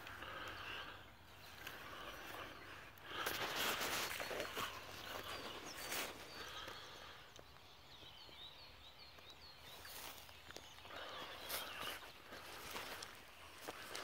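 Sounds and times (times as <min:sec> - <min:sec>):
rustling in dry leaves: 0:00.0 - 0:07.0, 0:09.7 - 0:14.0
small bird chirping: 0:00.0 - 0:14.0.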